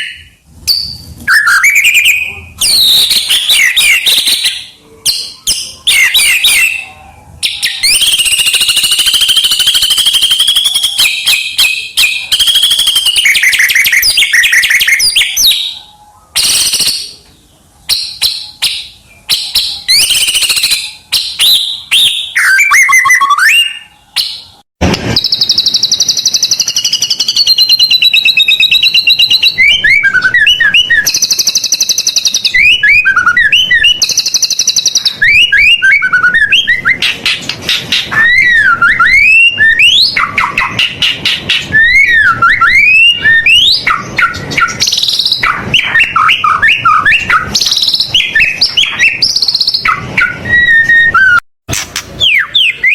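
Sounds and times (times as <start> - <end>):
songbird singing whistled phrases: 0.0 - 51.4, 52.2 - 52.9.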